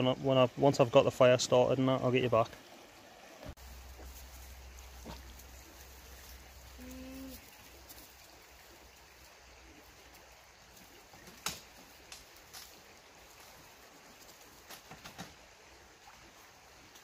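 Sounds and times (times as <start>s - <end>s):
small stream hissing: 0.0s - 17.0s.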